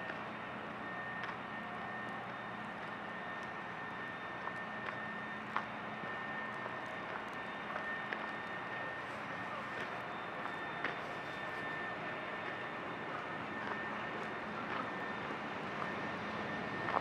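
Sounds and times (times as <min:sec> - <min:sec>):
distant traffic hum: 0:00.0 - 0:17.0
faint high whine: 0:00.0 - 0:17.0.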